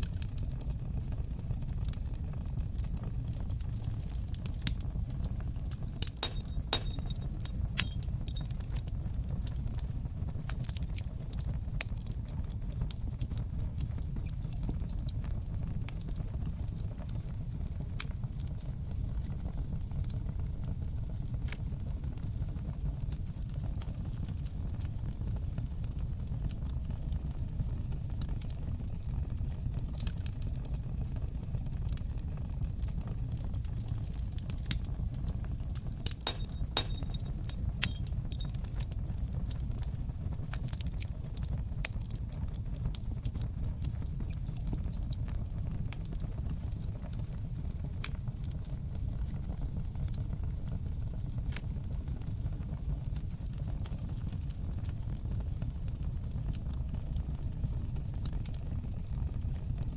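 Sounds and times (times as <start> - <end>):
fire crackling in fireplace: 0.0 - 59.9.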